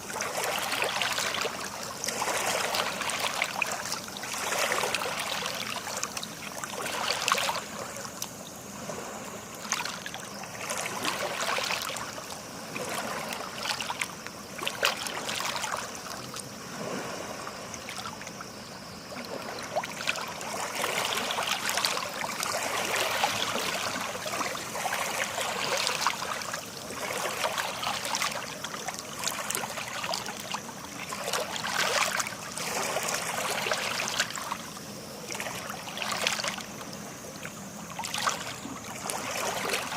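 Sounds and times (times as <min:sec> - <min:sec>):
small sea waves washing on shore: 0:00.0 - 0:39.9.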